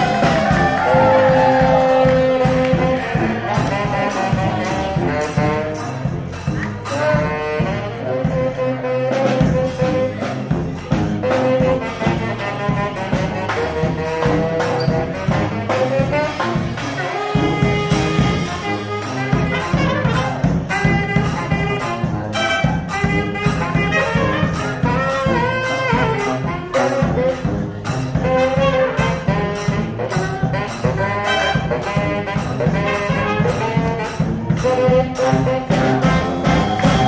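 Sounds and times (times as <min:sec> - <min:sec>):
brass band playing: 0:00.0 - 0:37.0
steady drum beat: 0:00.0 - 0:37.0.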